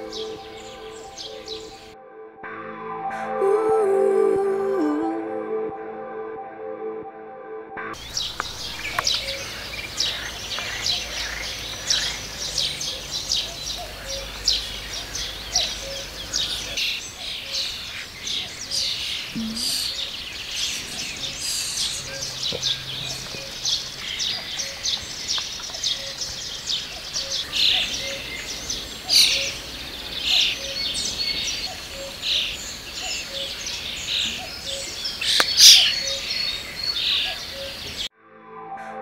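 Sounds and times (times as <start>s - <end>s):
starlings chirping and whistling: 0.0s - 1.9s, 8.0s - 38.1s.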